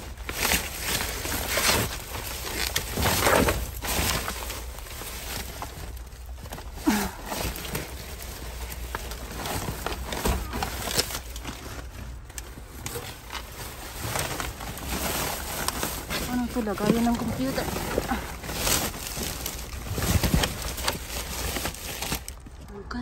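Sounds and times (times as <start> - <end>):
trash bags and paper rustling: 0.0 - 22.8.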